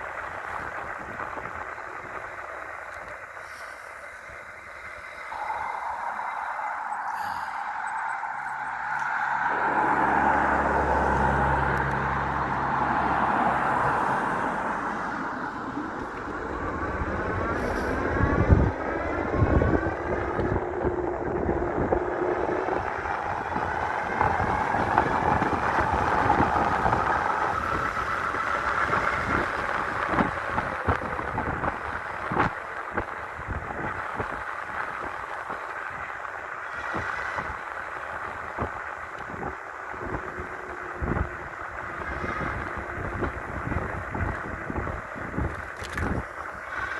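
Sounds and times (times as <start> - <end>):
low motor hum: 0.0 - 46.9
rush of tyres and air: 0.0 - 46.9.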